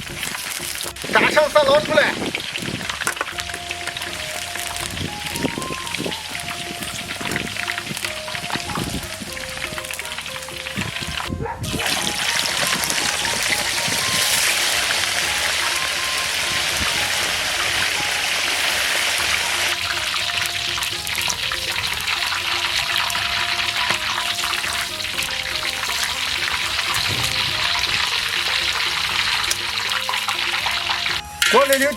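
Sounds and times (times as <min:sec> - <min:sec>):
light background music: 0:00.0 - 0:31.9
meat sizzling in hot oil: 0:00.0 - 0:31.9.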